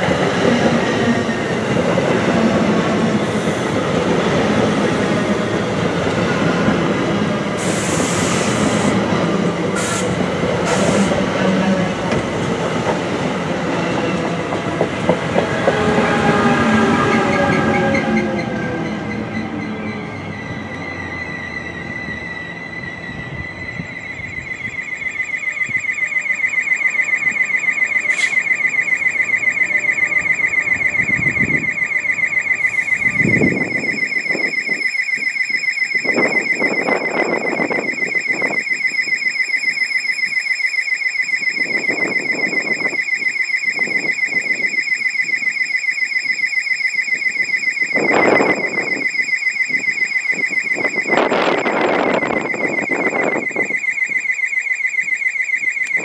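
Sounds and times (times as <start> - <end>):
high-pitched pulsing alarm tone: 0.0 - 9.1, 9.8 - 11.4, 15.3 - 56.0.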